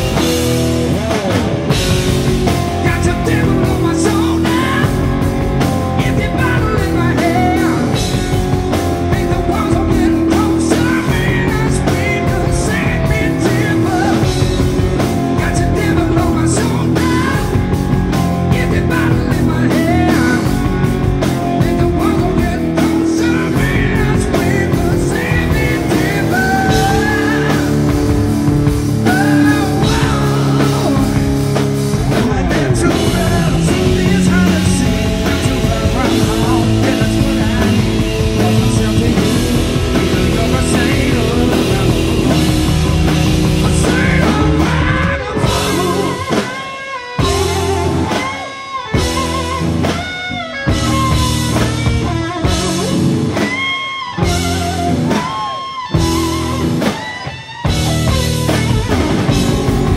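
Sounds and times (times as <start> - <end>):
electric guitar bending notes: 0.0 - 59.9
live rock band playing: 0.0 - 59.9.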